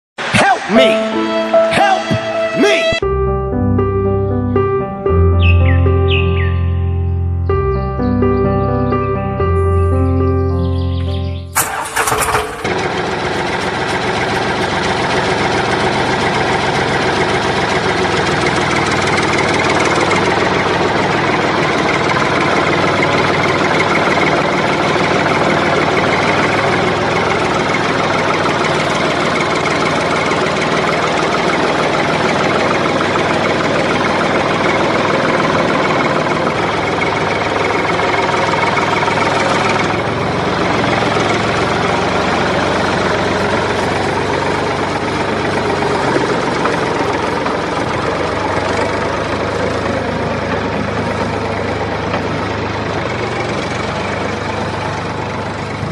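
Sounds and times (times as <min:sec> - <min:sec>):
truck engine idling: 0:02.3 - 0:55.9.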